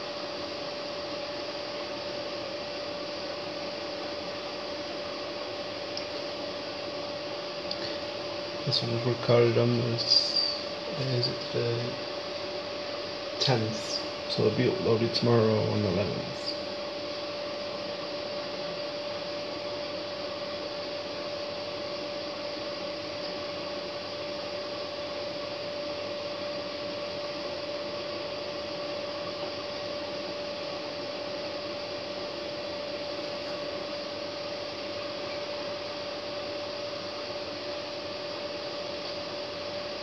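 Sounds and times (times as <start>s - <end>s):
constant whine: 0.0s - 40.0s.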